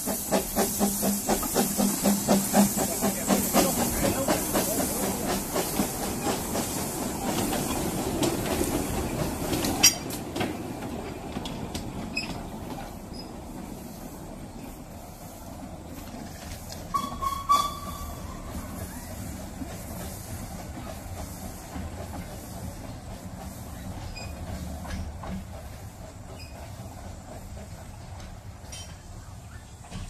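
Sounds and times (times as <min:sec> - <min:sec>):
train rolling over rails: 0:00.0 - 0:30.0.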